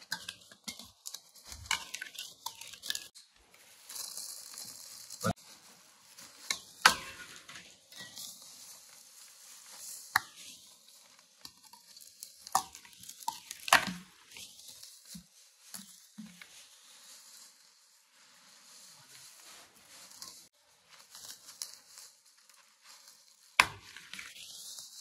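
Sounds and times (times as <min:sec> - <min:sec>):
plastic wrap and cardboard rustling: 0:00.0 - 0:25.0.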